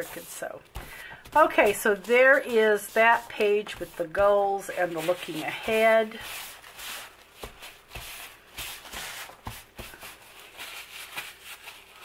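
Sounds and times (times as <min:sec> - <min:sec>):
paper towel rustling on paper: 0:00.0 - 0:12.0.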